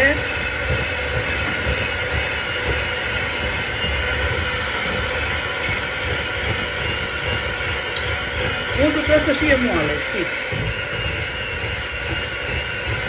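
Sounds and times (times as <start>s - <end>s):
electric hand mixer running: 0.0s - 13.0s.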